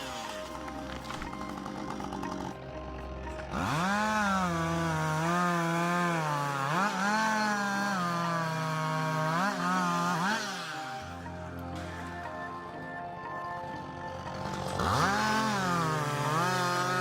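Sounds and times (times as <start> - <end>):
chainsaw revving and cutting: 0.0 - 17.0.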